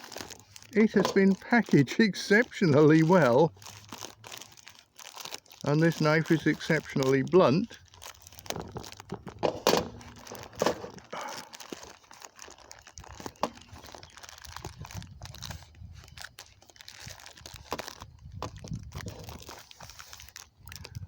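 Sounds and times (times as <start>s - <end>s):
packaging crinkling and tearing: 0.0s - 21.0s.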